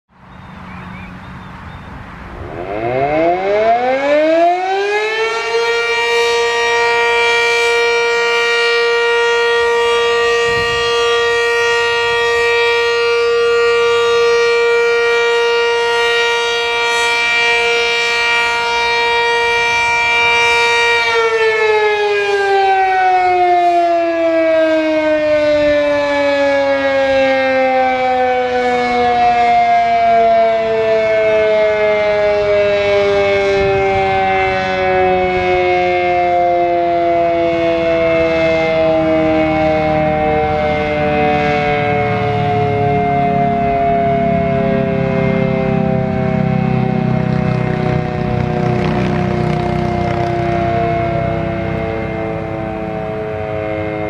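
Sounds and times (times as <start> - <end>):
fire siren wailing: 0.1 - 54.0.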